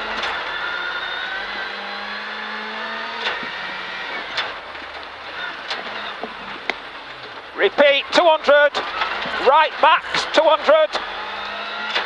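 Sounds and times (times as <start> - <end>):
rally car engine from inside: 0.0 - 6.6, 8.1 - 12.0.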